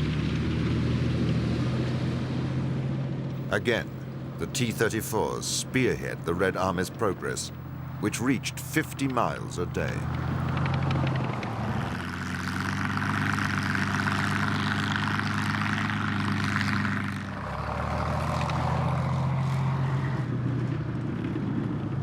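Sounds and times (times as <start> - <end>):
tank engines running: 0.0 - 22.0.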